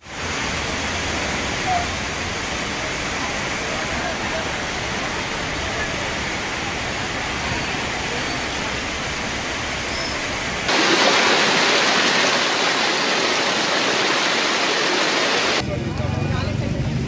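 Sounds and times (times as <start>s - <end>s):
heavy rain: 0.0s - 15.6s
rushing floodwater: 0.0s - 15.6s.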